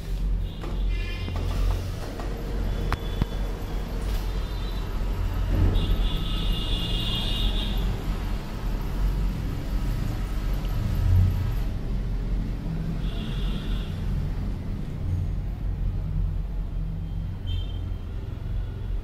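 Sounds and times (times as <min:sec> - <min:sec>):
copier motors and fans humming: 0:00.0 - 0:19.0.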